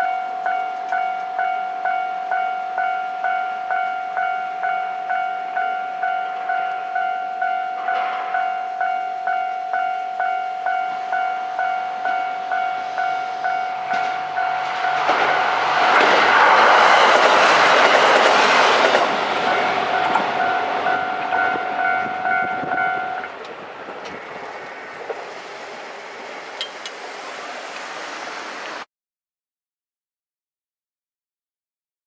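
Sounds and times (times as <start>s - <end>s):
level-crossing warning bell ringing: 0.0s - 27.5s
diesel railcar passing: 0.0s - 28.9s.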